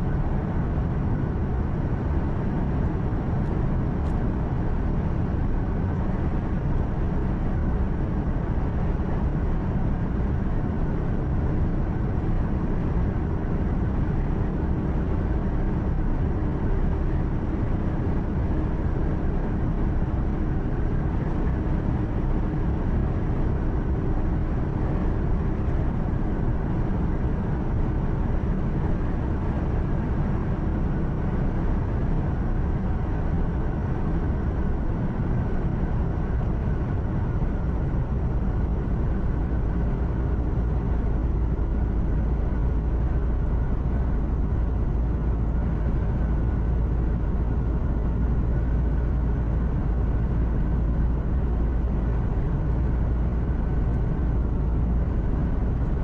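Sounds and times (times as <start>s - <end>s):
road and tyre noise: 0.0s - 56.0s
truck engine hum: 0.0s - 56.0s.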